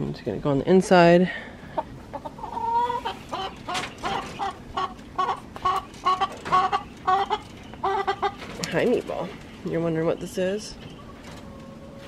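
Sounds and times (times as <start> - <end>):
chicken clucking: 1.6 - 12.0.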